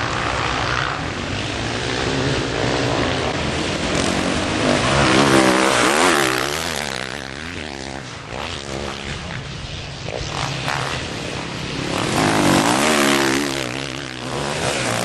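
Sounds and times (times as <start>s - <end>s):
motocross bikes revving past: 0.0s - 15.0s.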